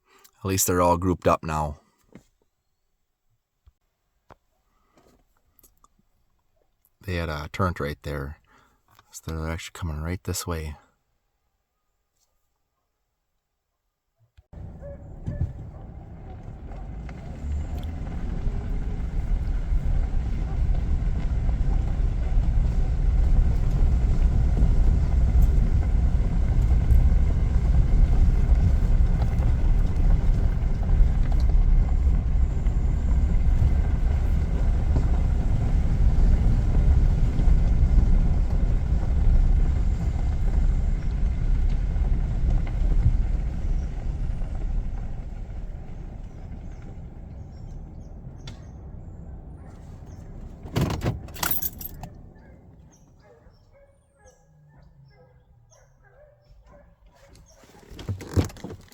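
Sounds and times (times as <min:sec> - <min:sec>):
vehicle road and engine rumble: 0:07.0 - 0:10.8, 0:14.4 - 0:58.9.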